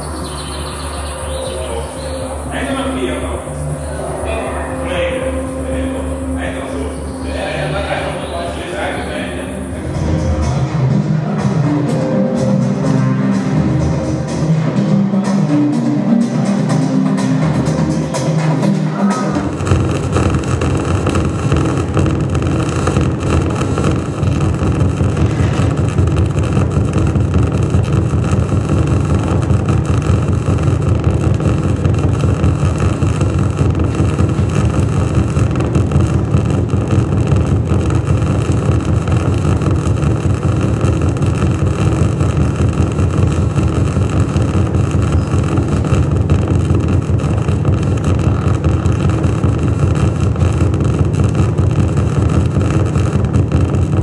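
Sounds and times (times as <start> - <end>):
electronic noise music drone: 0.0 - 54.0.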